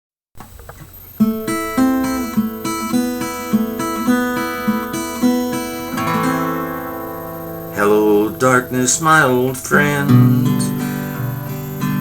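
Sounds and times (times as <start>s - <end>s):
acoustic guitar fingerpicking: 0.4s - 12.0s.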